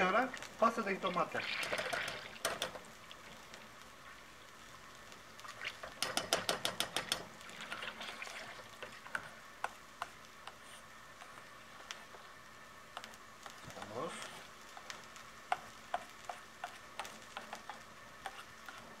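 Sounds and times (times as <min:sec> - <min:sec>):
butter sizzling in a pot: 0:00.0 - 0:19.0.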